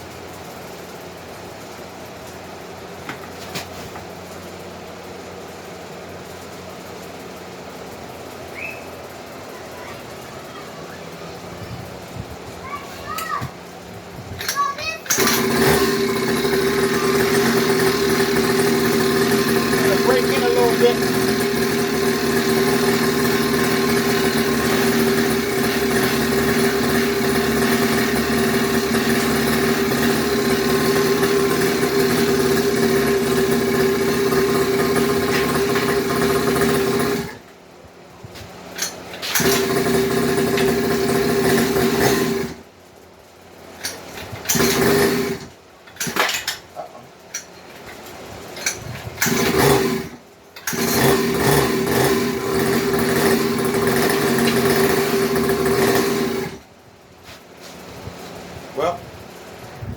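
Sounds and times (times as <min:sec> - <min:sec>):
two-stroke engine running: 0:00.0 - 0:59.9.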